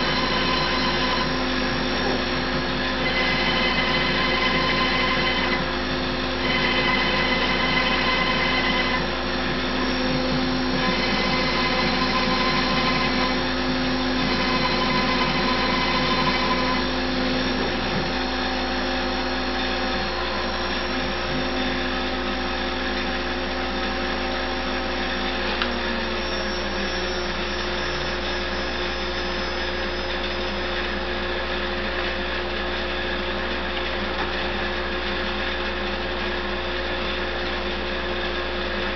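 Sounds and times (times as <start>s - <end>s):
cnc router whining: 0.0s - 38.9s
steady machine hum: 0.0s - 38.9s.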